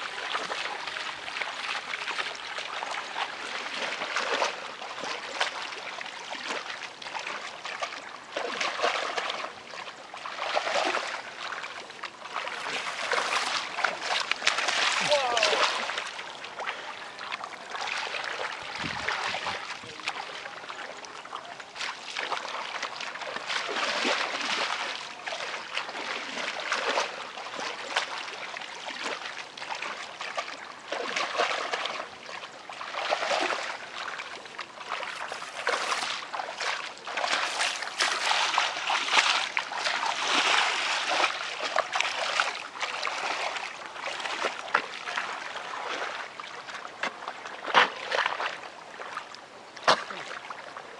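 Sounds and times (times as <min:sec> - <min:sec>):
muddy water splashing: 0:00.0 - 0:50.9.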